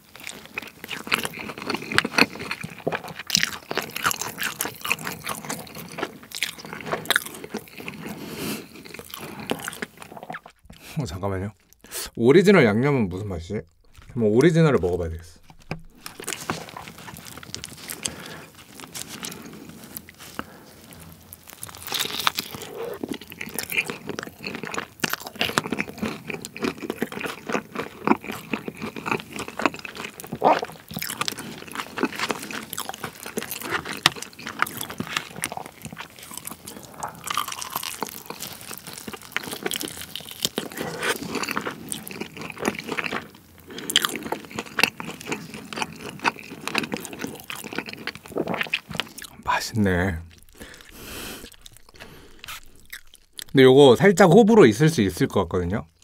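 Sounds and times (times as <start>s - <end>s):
crunchy bites of fried chicken: 0.0s - 10.6s, 14.9s - 49.4s, 50.3s - 53.6s
chewing: 0.0s - 11.0s, 13.6s - 49.5s, 50.3s - 53.6s.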